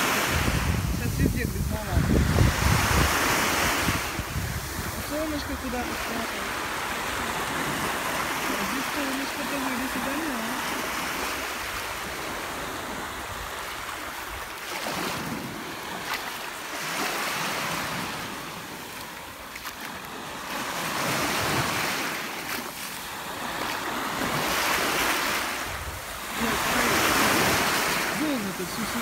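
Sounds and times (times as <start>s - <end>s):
small waves on sandy shore: 0.0s - 29.0s.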